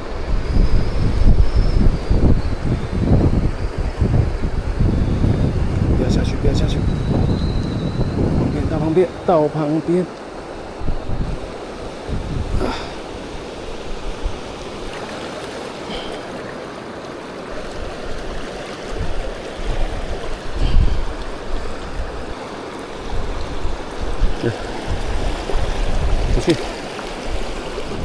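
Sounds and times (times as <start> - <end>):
wind buffeting microphone: 0.0 - 15.2, 17.5 - 28.0
rushing river water: 0.0 - 28.0.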